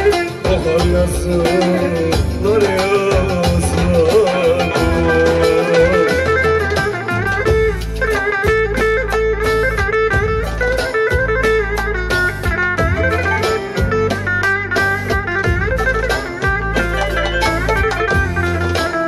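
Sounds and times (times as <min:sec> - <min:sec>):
darbuka beat: 0:00.0 - 0:19.0
folk band playing quick melody: 0:00.0 - 0:19.0
keyboard bass: 0:00.0 - 0:19.0.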